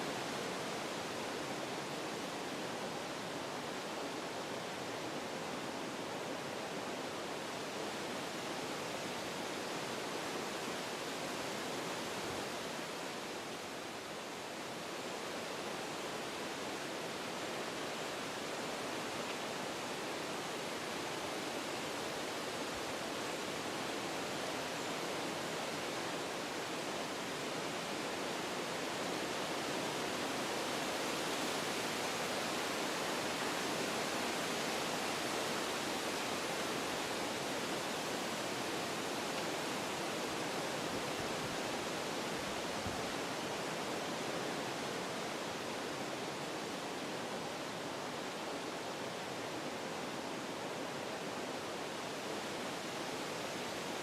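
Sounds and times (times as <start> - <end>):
wind through trees: 0.0 - 54.0.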